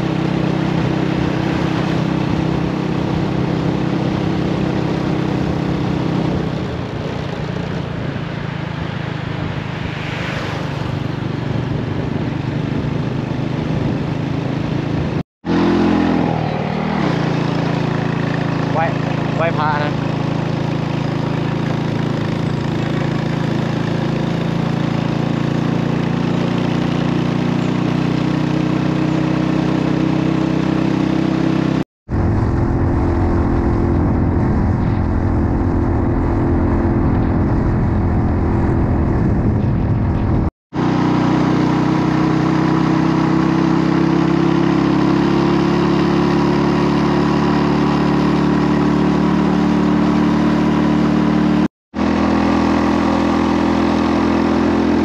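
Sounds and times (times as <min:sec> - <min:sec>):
motorcycle engine under load: 0:00.0 - 0:09.9, 0:10.7 - 0:55.0.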